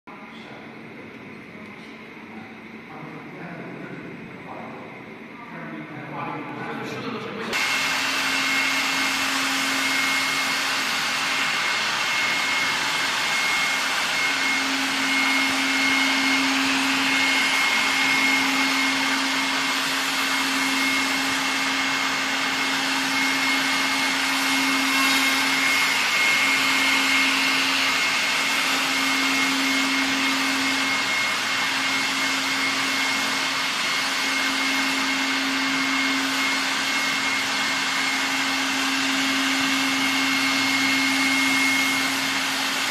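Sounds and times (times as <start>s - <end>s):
router spindle whine: 0.1s - 42.9s
cutter milling foam hiss: 7.5s - 42.9s.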